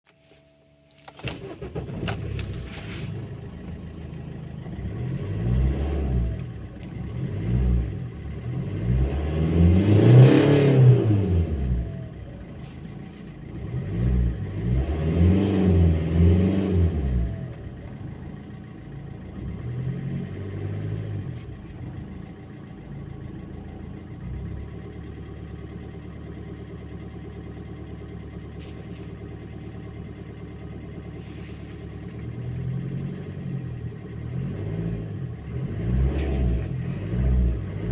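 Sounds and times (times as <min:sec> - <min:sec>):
diesel engine idling: 0:00.8 - 0:08.8, 0:11.1 - 0:14.9, 0:15.8 - 0:37.9
diesel engine starting and revving: 0:01.0 - 0:37.9.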